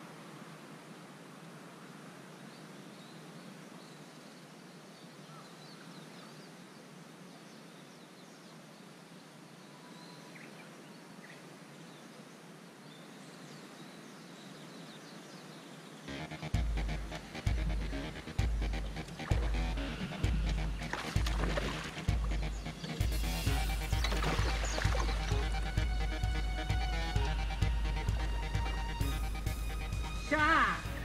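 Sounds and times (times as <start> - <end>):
faint birds chirping: 0.0 - 31.0
outdoor background hiss: 0.0 - 31.0.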